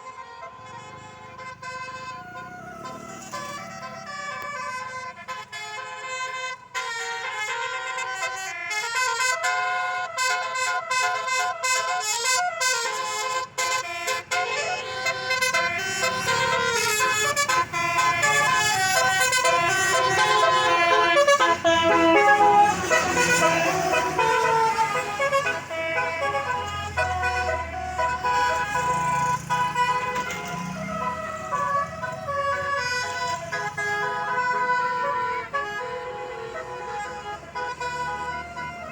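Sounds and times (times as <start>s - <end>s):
bus engine running: 0.0s - 7.8s, 12.8s - 38.9s
musical bus horn tune: 0.0s - 38.9s.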